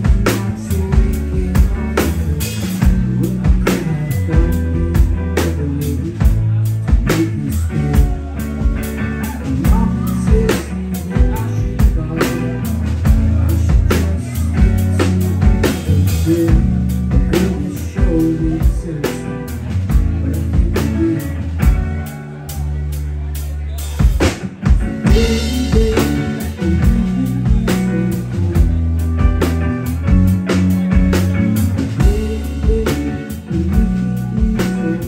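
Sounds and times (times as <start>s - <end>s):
heavy bass line: 0.0s - 35.0s
rock band playing: 0.0s - 35.0s
steady drum beat: 0.0s - 35.0s.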